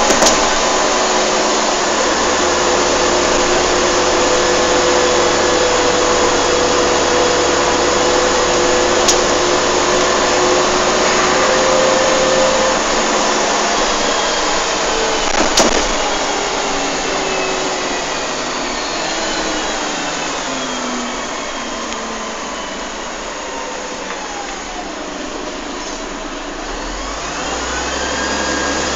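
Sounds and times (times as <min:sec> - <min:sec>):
bus engine and drivetrain whine: 0:00.0 - 0:28.9
road noise: 0:00.0 - 0:28.9.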